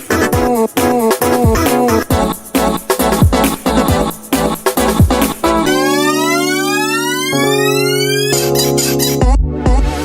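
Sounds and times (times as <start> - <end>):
instrumental afrobeat music: 0.0 - 10.0.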